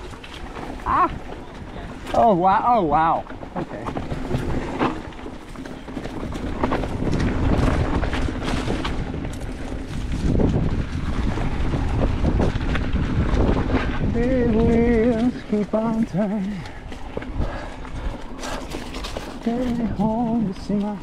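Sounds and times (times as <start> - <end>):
bike knocking and rattling: 0.0 - 21.0
bike tyres rumbling on dirt: 0.0 - 21.0
wind buffeting microphone: 0.0 - 21.0.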